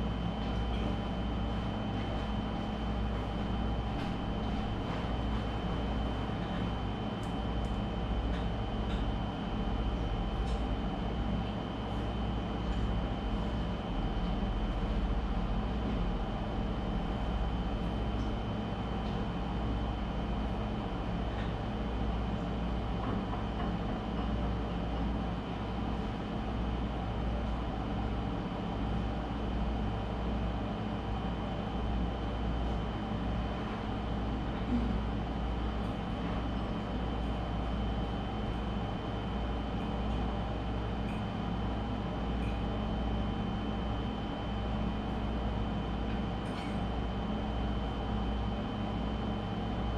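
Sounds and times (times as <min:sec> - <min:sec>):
mechanical hum: 0:00.0 - 0:49.9.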